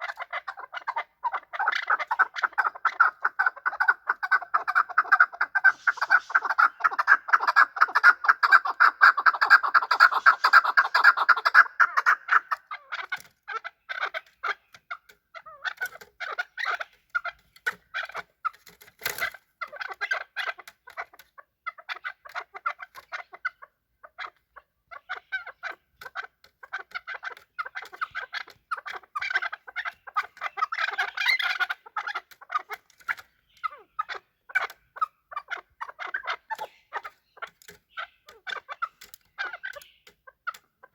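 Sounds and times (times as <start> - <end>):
partridge clucking: 0.1 - 23.2, 25.0 - 40.9.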